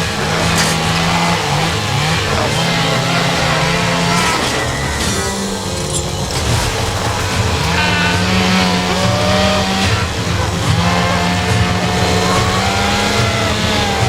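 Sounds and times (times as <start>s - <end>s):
engine running loudly: 0.0s - 14.0s
wavering whine: 0.0s - 14.0s.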